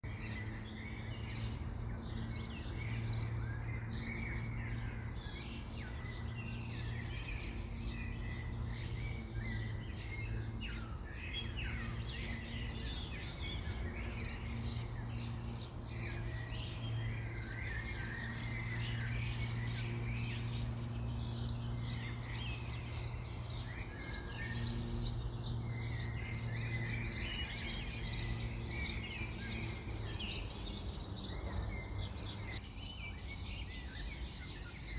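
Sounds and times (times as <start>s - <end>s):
birds chirping and singing: 0.0s - 34.9s.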